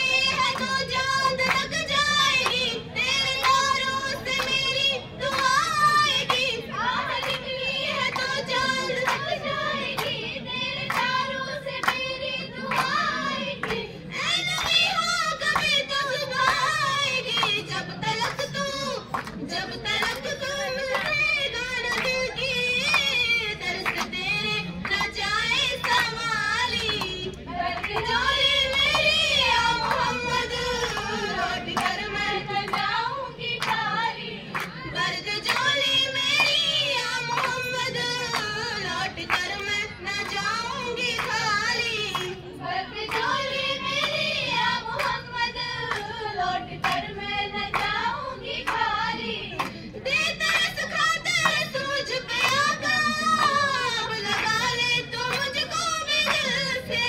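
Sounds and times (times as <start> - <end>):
girls singing: 0.0 - 57.0
hand claps: 1.4 - 4.6, 5.3 - 6.5, 7.1 - 10.2, 10.8 - 15.8, 16.4 - 24.2, 24.8 - 42.4, 43.0 - 44.3, 44.9 - 45.2, 45.8 - 46.2, 46.8 - 47.1, 47.7 - 49.8, 50.4 - 56.7.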